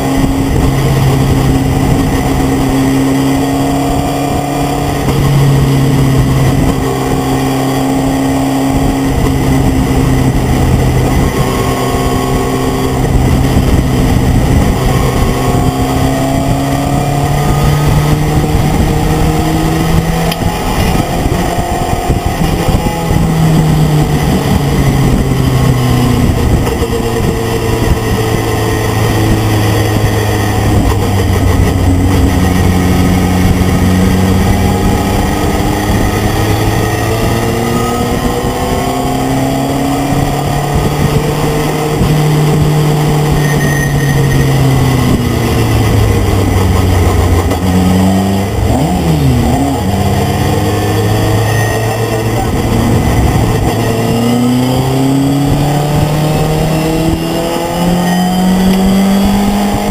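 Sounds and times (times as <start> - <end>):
truck engine revving hard: 0.0 - 59.9
wind and road noise: 0.0 - 59.9.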